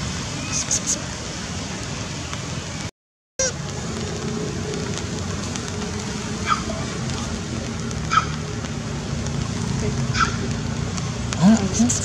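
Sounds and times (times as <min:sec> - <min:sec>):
rain on rock and foliage: 0:00.0 - 0:12.0.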